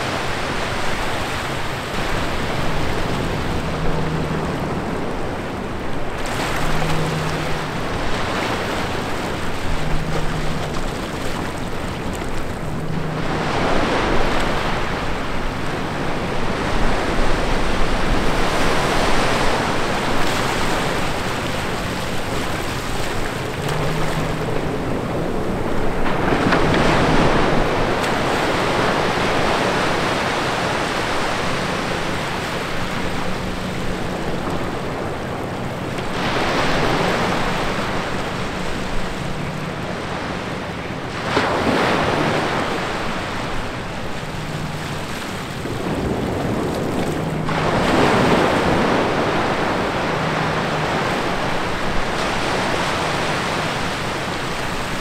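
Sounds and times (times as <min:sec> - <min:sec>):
small waves breaking on sand: 0:00.0 - 0:55.0.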